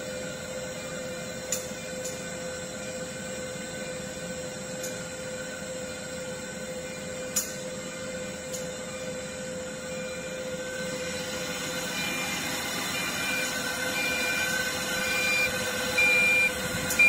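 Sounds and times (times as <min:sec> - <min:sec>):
lathe machine hum and whine: 0:00.0 - 0:17.0.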